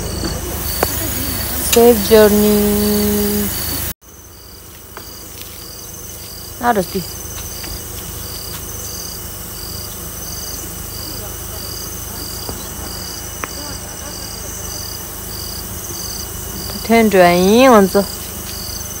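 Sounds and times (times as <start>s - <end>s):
high insect trill: 0.0s - 19.0s
insects chirping: 0.0s - 19.0s.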